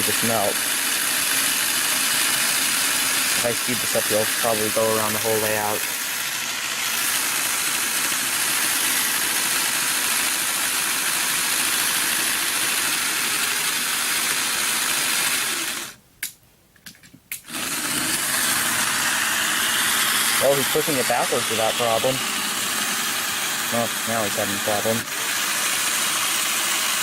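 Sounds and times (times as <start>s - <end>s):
model train motor whirring: 0.0s - 16.0s, 17.4s - 27.0s.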